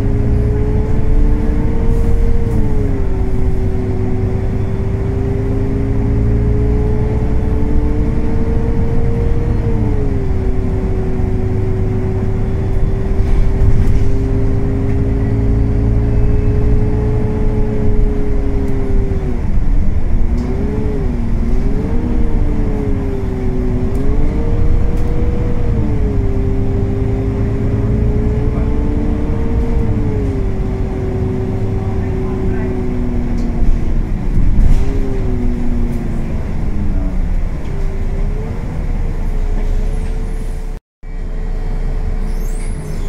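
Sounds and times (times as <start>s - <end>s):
bus engine droning: 0.0s - 43.0s.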